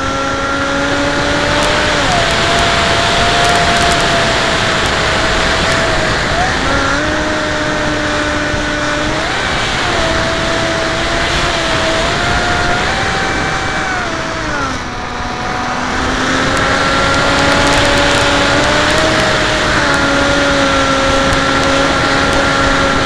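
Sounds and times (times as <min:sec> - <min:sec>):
model jet propeller whine: 0:00.0 - 0:23.0
wind rushing on microphone: 0:00.0 - 0:23.0.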